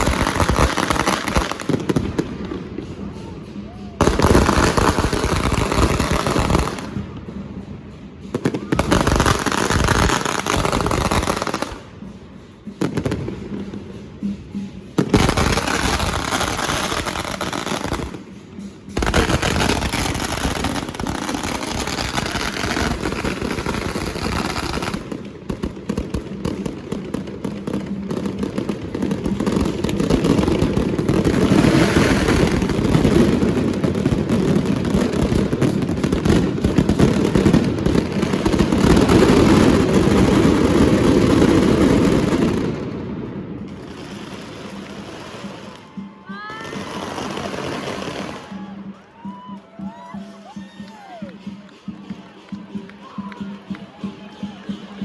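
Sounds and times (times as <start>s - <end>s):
fireworks bangs and crackling pops: 0.0s - 49.5s.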